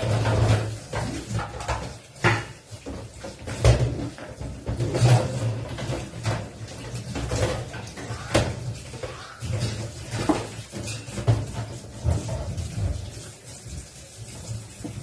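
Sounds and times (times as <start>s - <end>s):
household items knocking and clinking: 0.0s - 12.6s.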